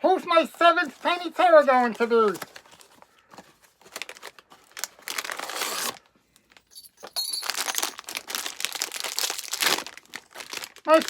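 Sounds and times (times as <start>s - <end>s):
packaging rustling and crinkling: 0.4s - 11.0s.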